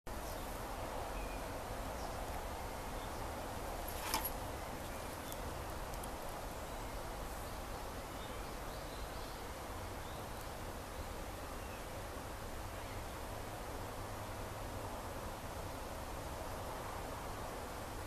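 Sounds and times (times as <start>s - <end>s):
background hiss and low hum: 0.1s - 18.0s.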